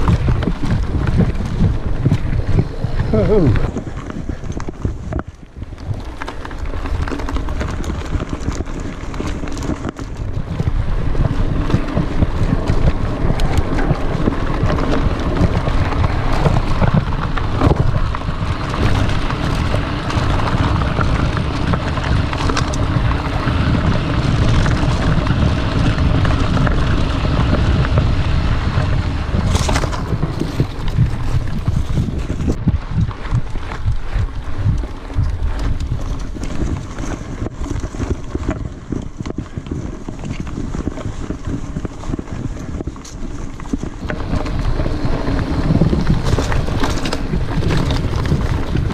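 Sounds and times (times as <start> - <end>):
bike knocks and rattles: 0.0 - 48.9
tyres rumbling on dirt: 0.0 - 48.9
wind buffeting microphone: 0.0 - 48.9.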